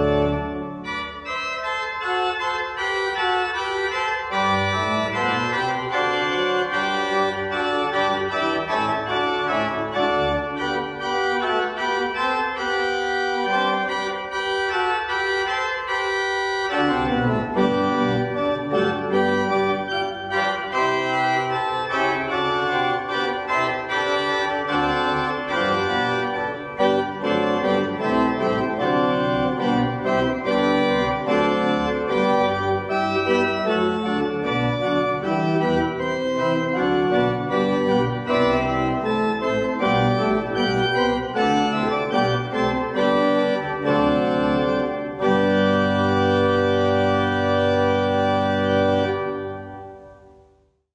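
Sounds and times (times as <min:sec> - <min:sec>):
pipe organ playing chords: 0:00.0 - 0:50.6.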